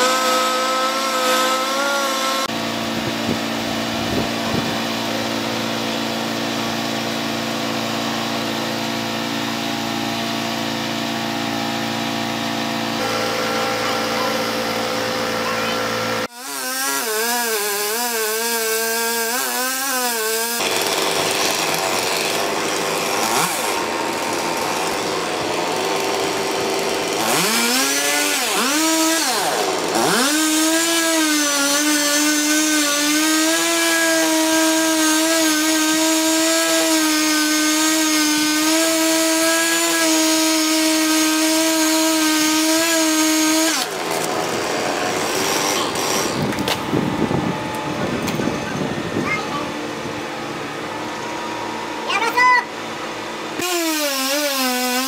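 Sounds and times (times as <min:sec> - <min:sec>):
chainsaw cutting through tree trunk: 0:00.0 - 0:48.9, 0:52.1 - 0:55.0.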